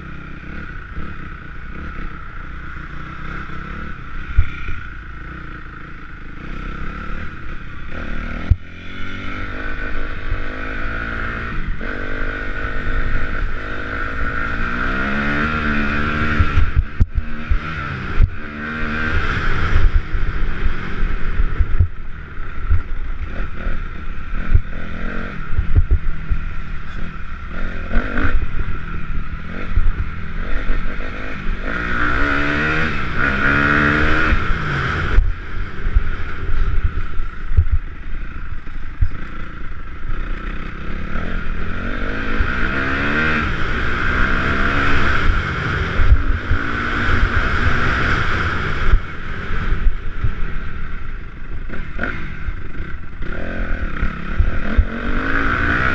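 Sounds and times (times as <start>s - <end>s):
motocross engines revving: 0.0s - 55.9s.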